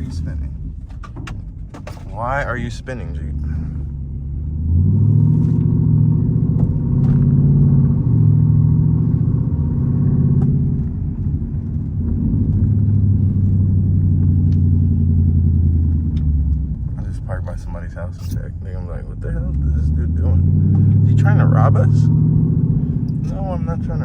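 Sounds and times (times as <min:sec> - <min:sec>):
car engine pulling: 0:00.0 - 0:24.0.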